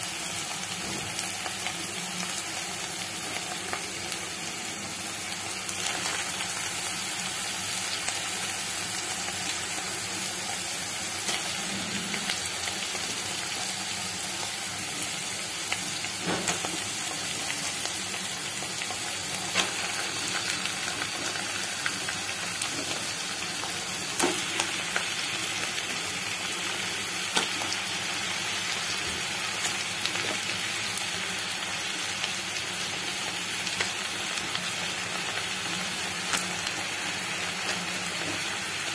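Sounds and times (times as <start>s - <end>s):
onions sizzling in oil: 0.0s - 38.9s.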